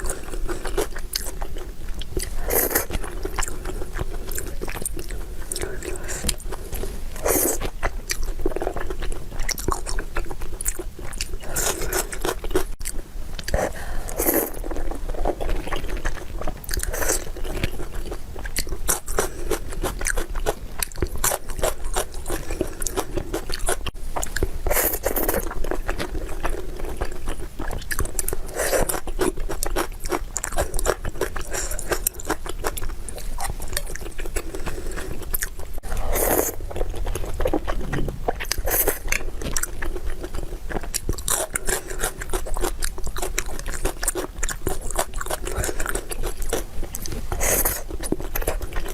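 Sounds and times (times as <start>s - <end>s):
food crunching while chewing: 0.0s - 48.9s.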